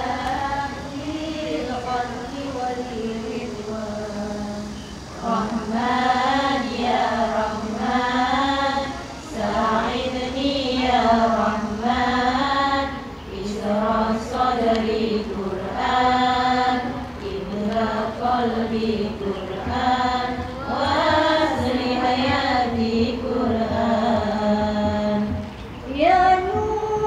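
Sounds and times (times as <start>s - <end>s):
women chanting in unison: 0.0s - 27.0s.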